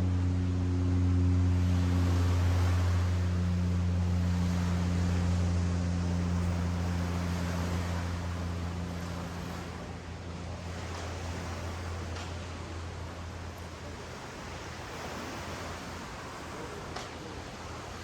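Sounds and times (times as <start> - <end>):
low engine hum: 0.0 - 18.0
ocean surf washing on beach: 0.0 - 18.0.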